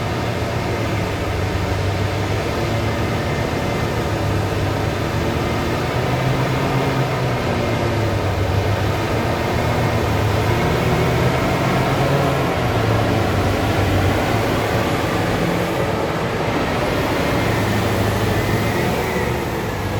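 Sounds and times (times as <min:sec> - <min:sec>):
large diesel engine running: 0:00.0 - 0:19.9.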